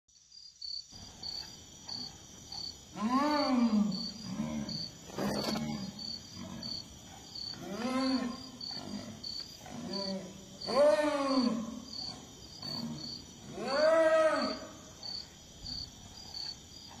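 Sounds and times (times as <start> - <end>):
high insect chirps: 0.1 - 17.0
jaguar growling: 1.1 - 17.0.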